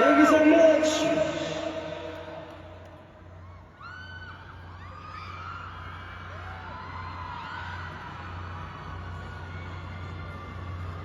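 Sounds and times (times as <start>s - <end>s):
constant low hum: 0.0s - 11.0s
crowd cheering and screaming: 0.0s - 11.0s.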